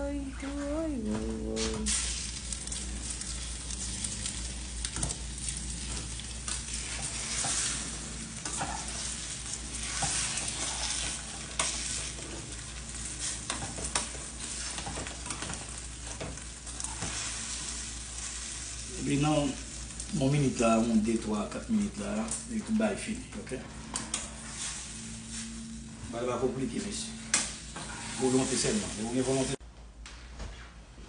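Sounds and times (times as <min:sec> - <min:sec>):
food sizzling in hot oil: 0:01.6 - 0:23.2, 0:23.9 - 0:29.6.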